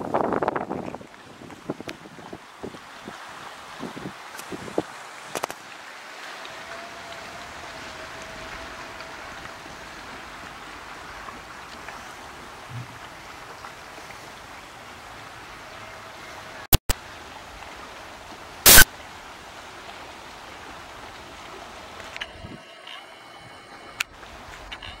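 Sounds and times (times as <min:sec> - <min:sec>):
distant water: 0:00.0 - 0:25.0
wind hiss: 0:00.0 - 0:25.0.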